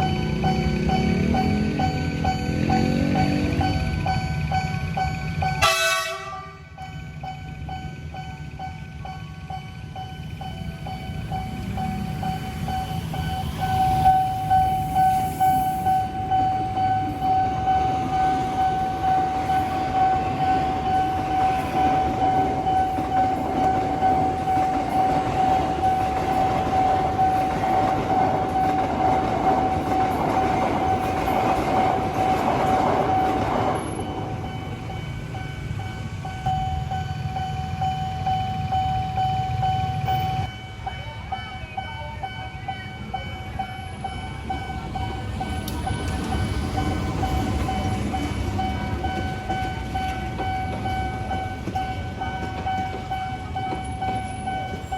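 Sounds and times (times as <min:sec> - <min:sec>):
level crossing warning bell: 0:00.0 - 0:54.9
train passing: 0:00.0 - 0:54.9.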